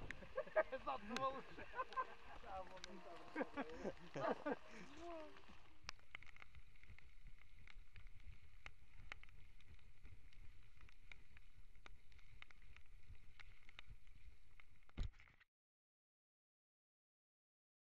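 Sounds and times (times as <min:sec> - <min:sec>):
bike clicks and ticks: 0:00.0 - 0:15.1.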